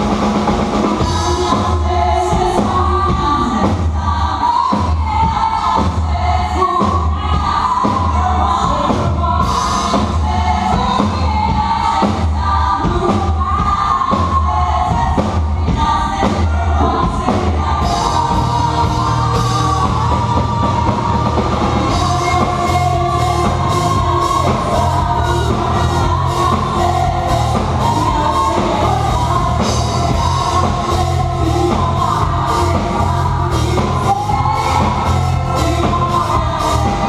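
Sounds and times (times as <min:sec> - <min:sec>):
drum beat and bass: 0:00.0 - 0:37.0
person singing: 0:00.9 - 0:37.0.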